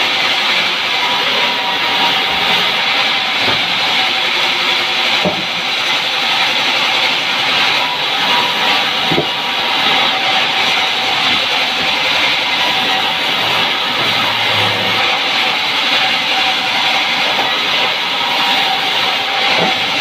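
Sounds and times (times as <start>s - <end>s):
band saw cutting log: 0.0s - 20.0s.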